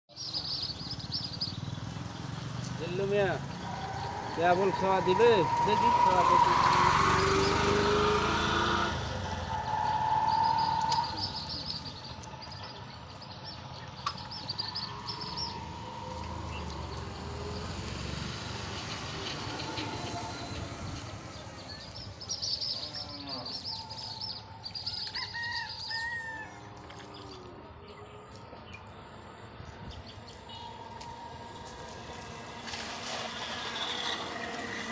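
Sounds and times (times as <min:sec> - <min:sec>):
birds chirping: 0:00.1 - 0:34.9
low outdoor background: 0:00.1 - 0:34.9.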